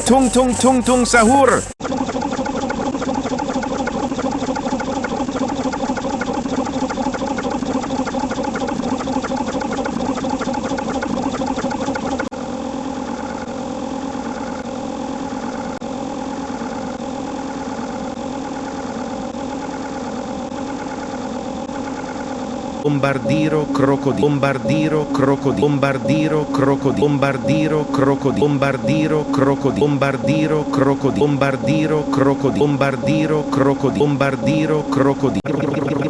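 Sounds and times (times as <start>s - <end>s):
steady mechanical drone: 0.0s - 36.0s.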